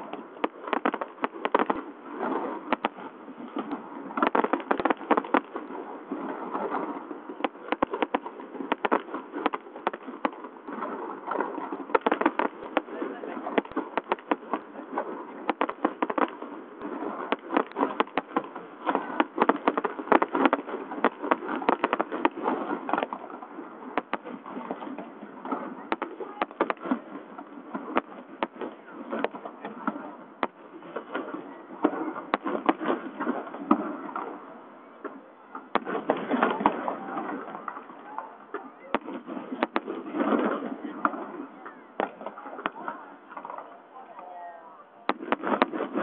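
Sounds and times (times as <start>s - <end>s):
fireworks crackling and popping: 0.0s - 44.4s, 45.0s - 46.0s.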